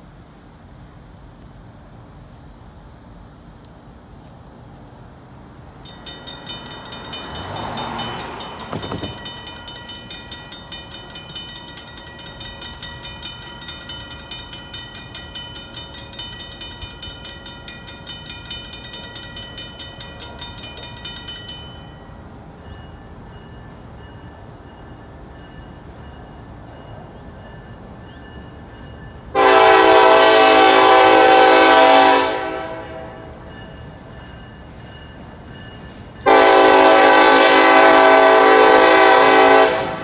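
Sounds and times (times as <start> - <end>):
crossing bells ringing: 5.8 - 40.0.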